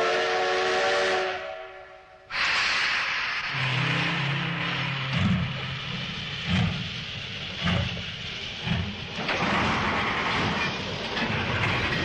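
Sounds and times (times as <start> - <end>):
steam hissing: 2.3 - 12.0
steam locomotive chuffing: 2.3 - 12.0.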